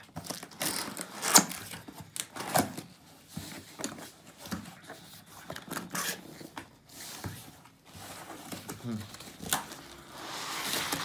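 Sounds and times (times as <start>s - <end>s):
cardboard scraping and rustling: 0.1s - 11.0s.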